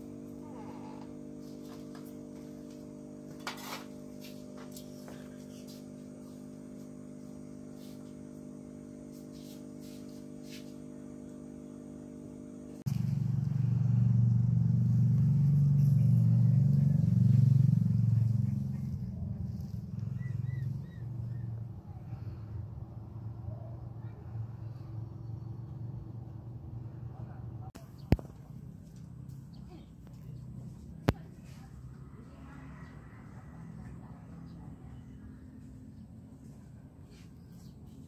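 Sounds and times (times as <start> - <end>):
electrical hum: 0.0 - 38.0
loud low engine rumble: 0.0 - 38.0.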